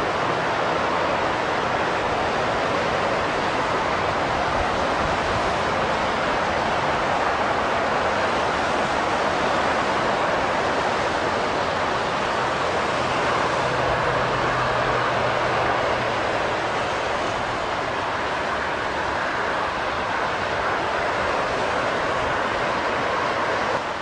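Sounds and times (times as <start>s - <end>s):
freeway traffic roar: 0.0s - 24.0s.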